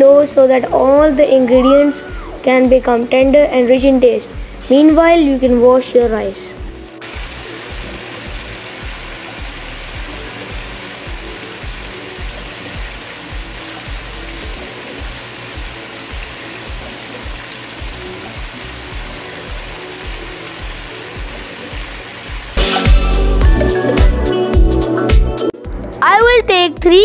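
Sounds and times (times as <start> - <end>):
gravy sizzling hiss: 0.0 - 24.6.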